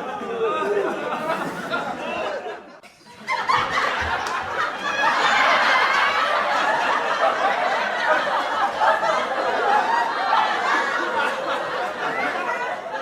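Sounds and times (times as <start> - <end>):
crowd laughing: 0.0 - 13.0.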